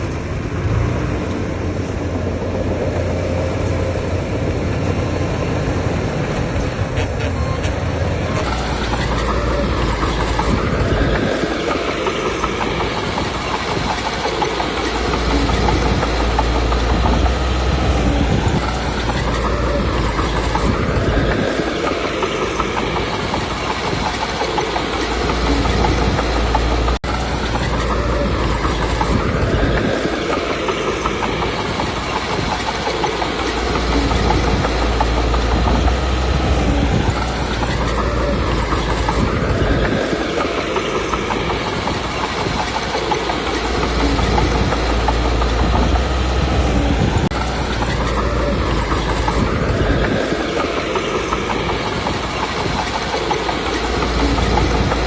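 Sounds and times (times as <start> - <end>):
bulldozer diesel engine under load: 0.0 - 55.0
steel tracks clanking: 0.0 - 55.0.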